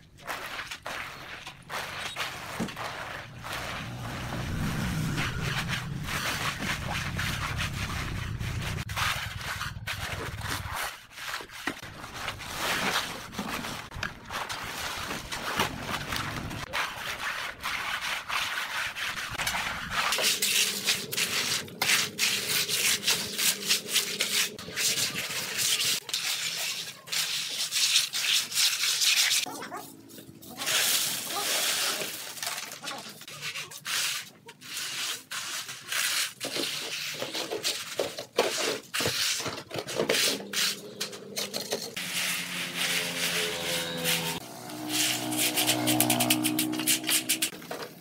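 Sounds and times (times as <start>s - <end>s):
trowel scraping wet concrete: 0.1s - 47.6s.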